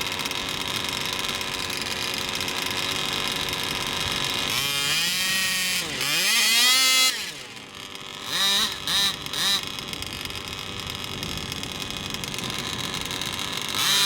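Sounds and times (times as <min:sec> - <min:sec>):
short throttle bursts: 0:00.0 - 0:14.0
toy car motor whining: 0:00.0 - 0:14.0.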